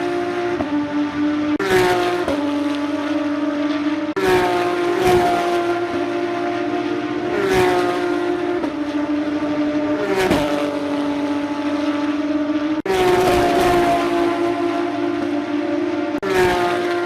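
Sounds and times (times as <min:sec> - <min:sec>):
race car engines at high revs: 0:00.0 - 0:17.0
race cars passing by: 0:00.0 - 0:17.0.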